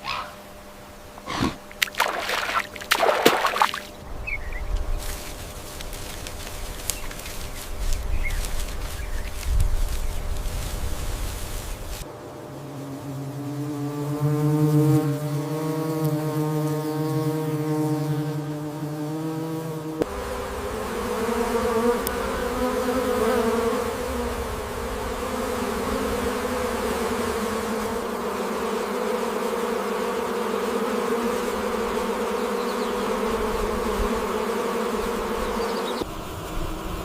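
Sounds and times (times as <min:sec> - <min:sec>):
flying insect buzzing: 0:00.0 - 0:37.0.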